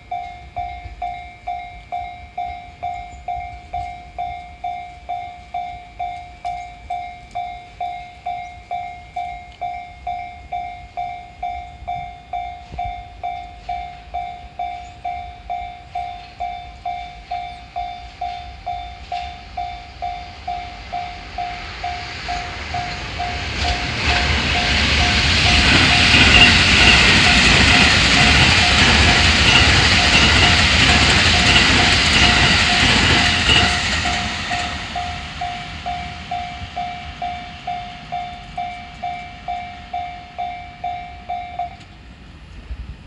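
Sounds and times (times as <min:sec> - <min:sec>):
railroad crossing bell clanging: 0:00.0 - 0:42.8
electric train rumbling past: 0:00.0 - 0:43.0.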